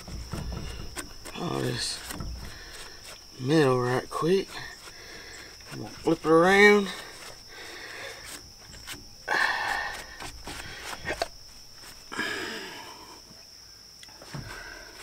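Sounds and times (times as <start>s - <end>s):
paper towel rasping on metal: 0.0s - 12.1s.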